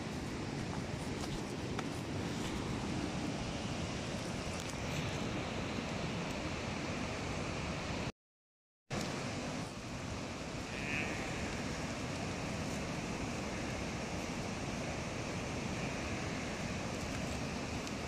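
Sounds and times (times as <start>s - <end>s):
mountain river rushing: 0.0s - 8.1s, 8.9s - 18.0s.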